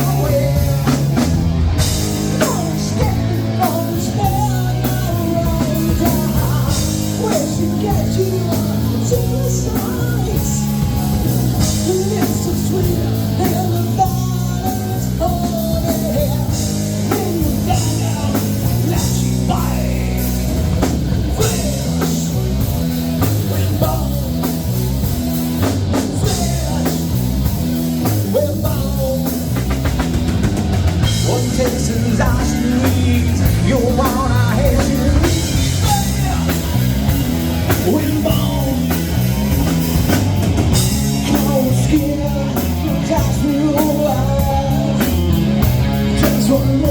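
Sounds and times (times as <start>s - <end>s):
person singing: 0.0s - 1.2s, 2.2s - 22.6s, 23.2s - 24.7s, 31.0s - 40.1s, 40.7s - 46.9s
rock band playing live: 0.0s - 46.9s.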